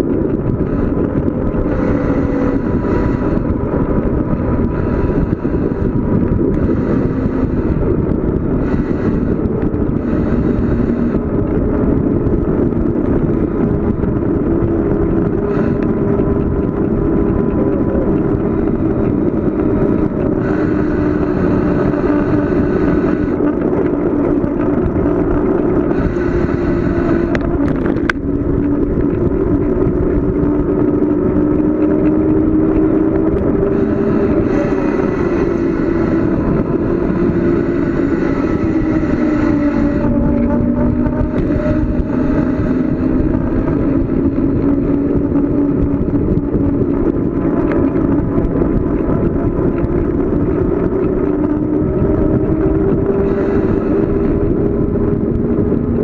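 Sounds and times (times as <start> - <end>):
bicycle tyre noise: 0.0 - 56.0
wind rush: 0.0 - 56.0
faint hum: 0.1 - 31.0, 31.8 - 56.0.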